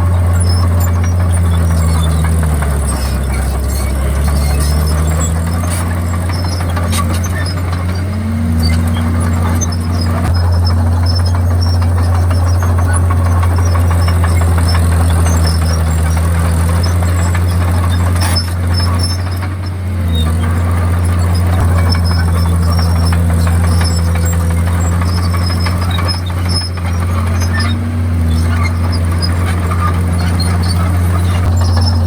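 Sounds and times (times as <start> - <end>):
bulldozer diesel engine drone: 0.0 - 32.0
machine clanks: 0.1 - 32.0.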